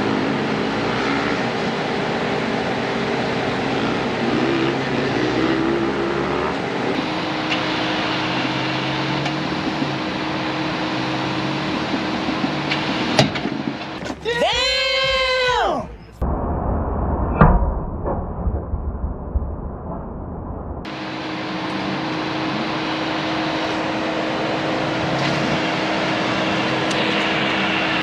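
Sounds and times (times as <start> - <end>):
engine running steadily: 0.0 - 16.2, 20.8 - 28.0.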